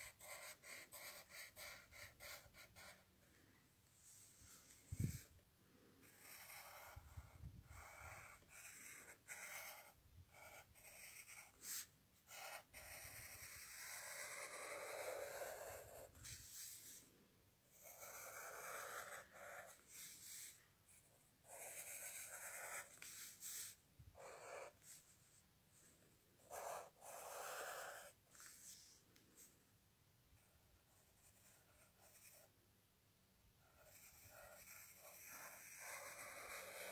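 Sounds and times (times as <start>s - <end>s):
pen scratching on paper: 0.0s - 3.0s, 6.0s - 17.0s, 17.7s - 29.5s, 30.4s - 32.5s, 33.6s - 36.9s.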